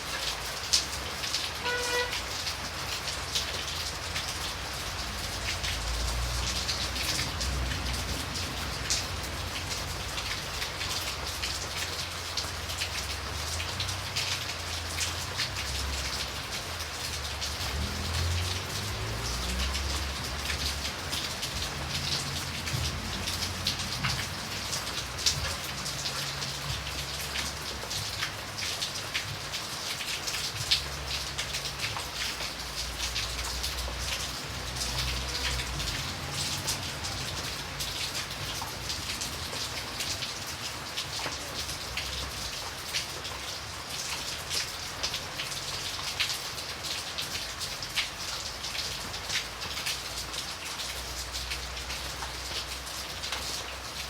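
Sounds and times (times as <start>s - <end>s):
rain drops ticking on a surface: 0.0s - 54.0s.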